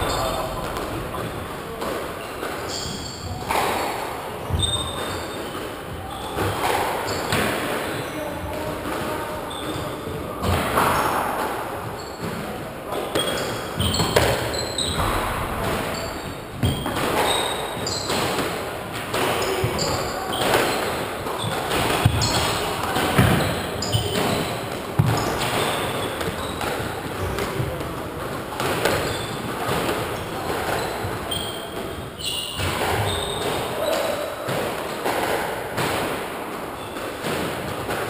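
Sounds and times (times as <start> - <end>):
sneakers squeaking: 0.0 - 38.0
squash ball hitting rackets and walls: 0.0 - 38.0.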